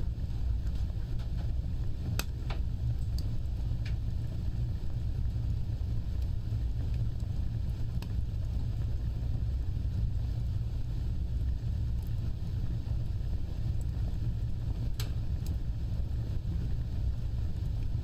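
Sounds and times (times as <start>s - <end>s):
fire crackles: 0.0s - 18.0s
wood fire rumbling: 0.0s - 18.0s.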